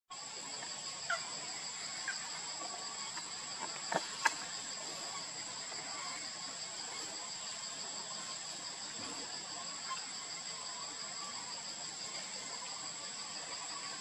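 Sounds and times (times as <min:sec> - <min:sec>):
high-pitched insect drone: 0:00.1 - 0:14.0.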